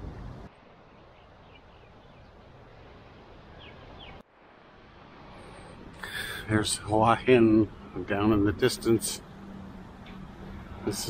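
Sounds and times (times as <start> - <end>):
soft outdoor hiss: 0.0 - 11.0.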